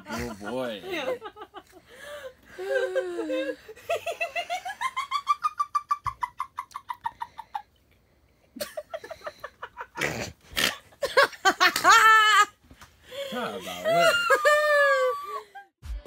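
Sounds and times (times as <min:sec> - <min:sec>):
woman laughing: 0:00.0 - 0:07.6, 0:08.6 - 0:10.0, 0:11.0 - 0:12.5, 0:13.4 - 0:15.7.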